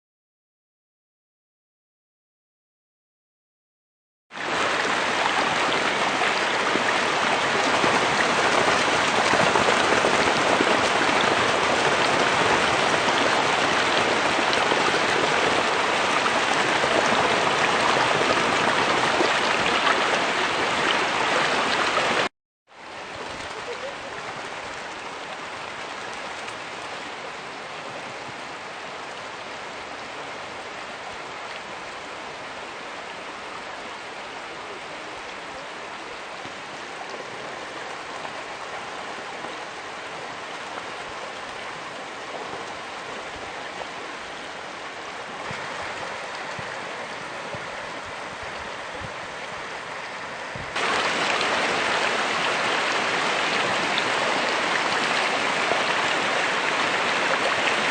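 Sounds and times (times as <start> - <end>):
floodwater rushing across road: 4.4 - 57.9.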